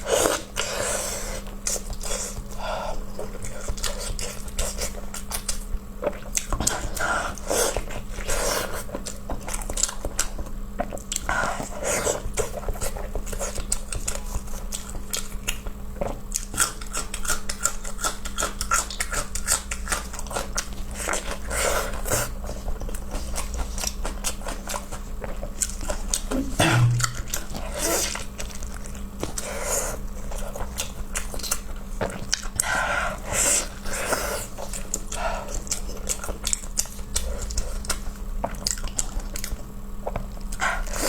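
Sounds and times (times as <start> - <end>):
person chewing wet food: 0.0 - 41.0.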